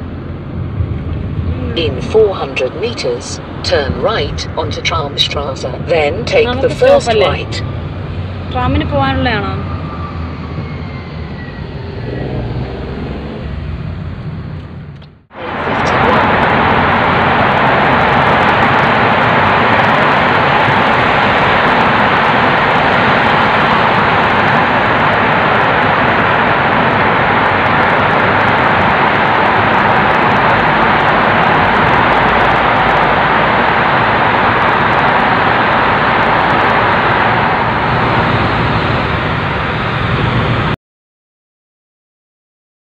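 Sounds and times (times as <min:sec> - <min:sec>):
car tyre and wind noise: 0:00.0 - 0:40.8.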